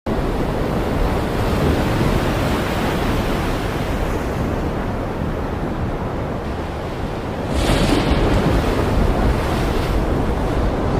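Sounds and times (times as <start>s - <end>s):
wind and rain rushing: 0.1s - 10.9s
wind buffeting microphone: 0.1s - 10.9s.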